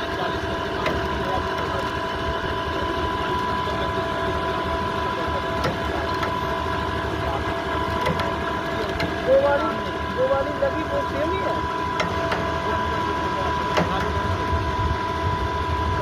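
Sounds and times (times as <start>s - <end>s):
high whine: 0.0s - 16.0s
machine engine rumbling: 0.0s - 16.0s.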